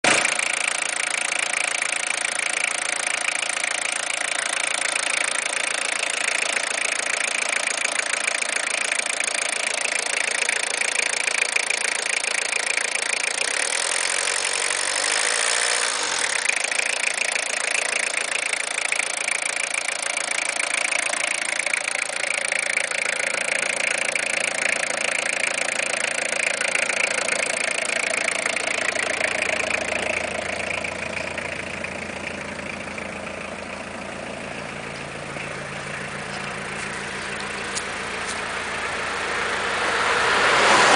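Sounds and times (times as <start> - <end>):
diesel engine idling and revving: 0.0 - 40.9.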